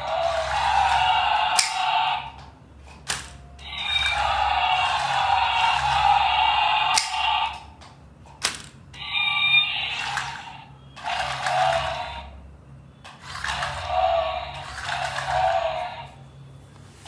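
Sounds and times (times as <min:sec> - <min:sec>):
toy motor and gears whirring: 0:00.0 - 0:07.8, 0:08.4 - 0:12.3, 0:13.0 - 0:16.2.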